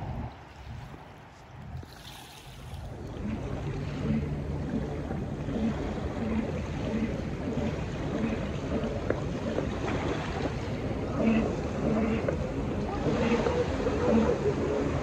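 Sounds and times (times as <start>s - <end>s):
river water lapping on rocks: 0.4s - 15.0s.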